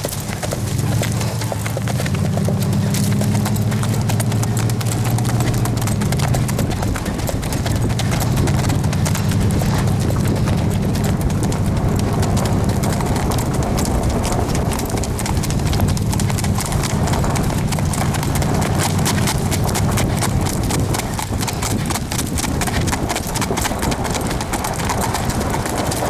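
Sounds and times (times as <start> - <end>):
horse hooves clip-clopping: 0.0 - 26.0
low steady rumble: 0.3 - 23.5.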